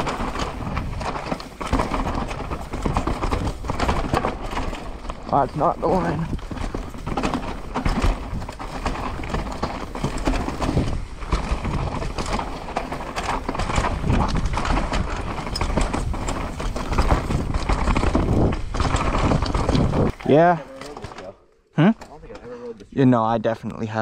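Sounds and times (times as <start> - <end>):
bike rattling and knocking: 0.0 - 22.7
bike tyre rumble on trail: 0.0 - 22.7.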